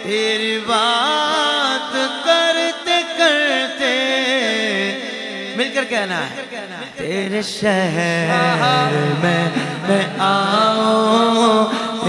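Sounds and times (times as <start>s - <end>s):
men singing with echo: 0.0s - 12.0s.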